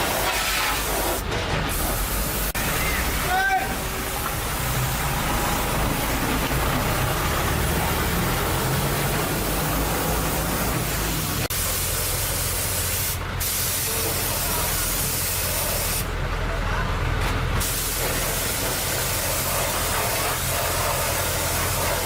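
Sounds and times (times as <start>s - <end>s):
loud hissing spray: 0.0s - 16.1s, 17.6s - 22.0s.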